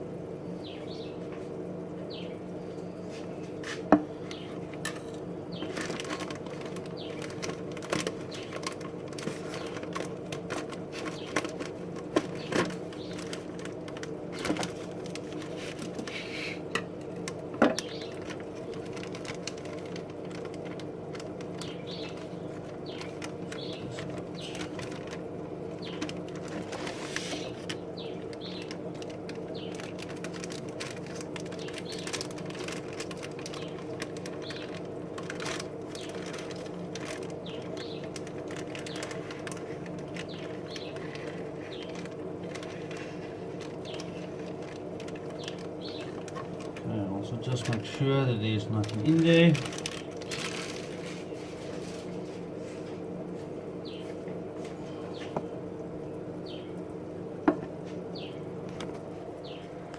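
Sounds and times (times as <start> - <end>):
steady low hum: 0.0 - 59.9
plastic bags rustling: 3.5 - 53.6.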